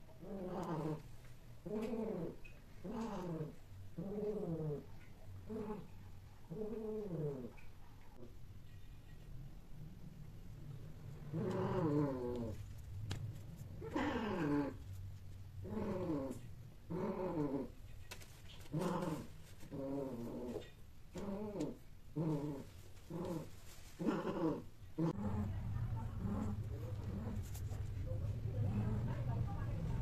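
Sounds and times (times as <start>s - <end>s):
cat growling low: 0.1s - 8.3s, 11.0s - 12.7s, 13.6s - 15.0s, 15.6s - 17.8s, 18.6s - 30.0s.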